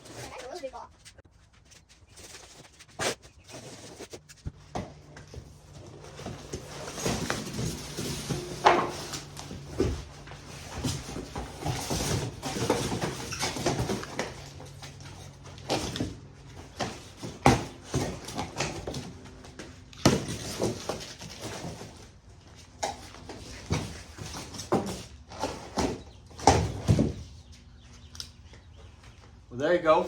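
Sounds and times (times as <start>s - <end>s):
cardboard scraping and rustling: 0.0s - 27.3s.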